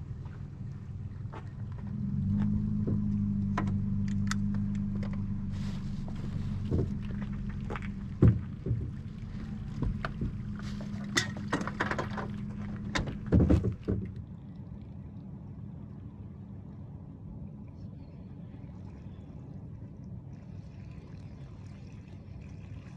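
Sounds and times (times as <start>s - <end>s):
low engine hum: 0.0s - 22.9s.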